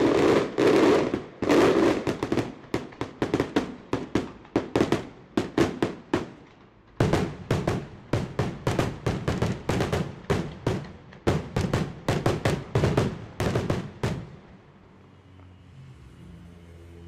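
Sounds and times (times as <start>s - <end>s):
fireworks bursting: 0.0s - 14.6s.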